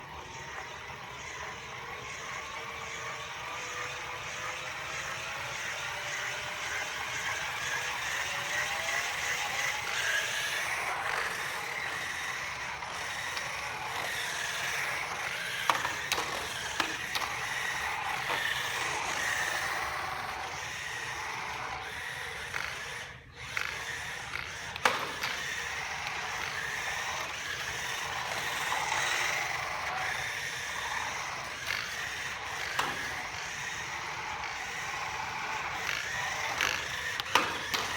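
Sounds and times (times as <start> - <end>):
robot vacuum motor whine: 0.0 - 37.9.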